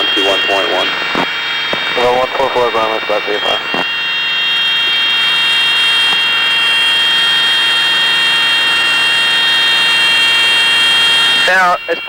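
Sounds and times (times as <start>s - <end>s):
aircraft engine and cabin noise: 0.0s - 12.0s
cockpit warning horn: 0.0s - 12.0s.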